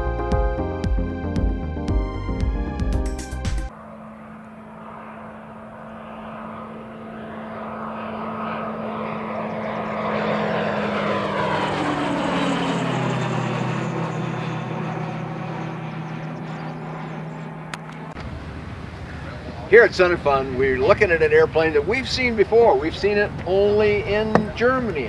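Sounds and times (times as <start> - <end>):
propeller plane flying past: 3.6 - 25.0.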